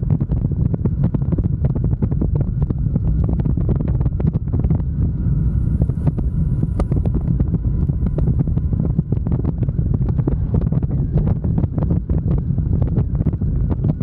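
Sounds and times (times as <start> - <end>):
motorcycle engine running: 0.0 - 14.0
wind buffeting microphone: 0.0 - 14.0
road noise: 2.4 - 13.7.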